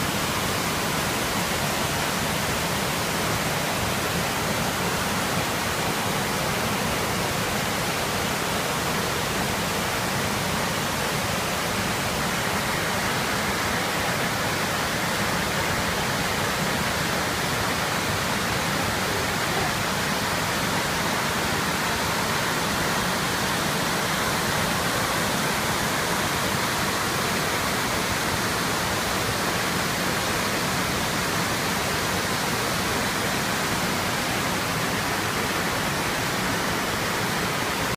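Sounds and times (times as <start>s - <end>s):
rushing river water: 0.0s - 37.9s.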